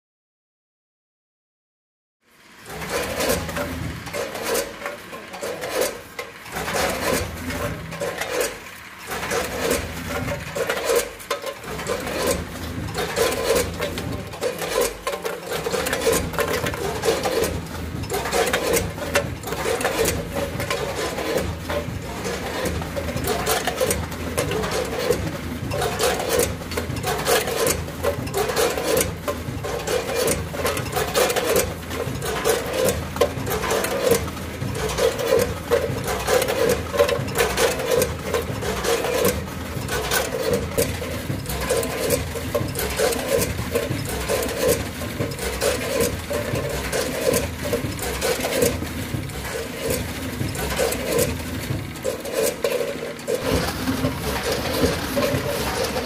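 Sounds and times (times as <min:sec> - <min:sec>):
pulsing mechanical hum: 0:02.4 - 0:56.0
hopper gates clacking and rattling: 0:02.6 - 0:56.0.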